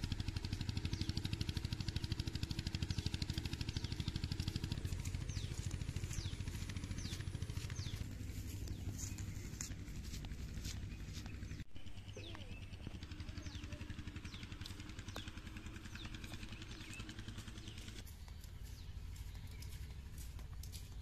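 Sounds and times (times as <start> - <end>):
birds chirping: 0.0 - 21.0
steady low rumble: 1.4 - 21.0.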